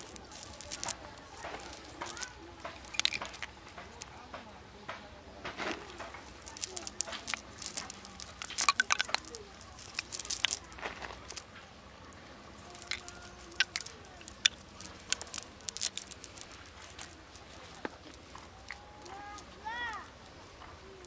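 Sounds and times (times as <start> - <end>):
plastic sack crinkling: 0.0 - 4.1, 5.7 - 11.5, 12.5 - 20.1.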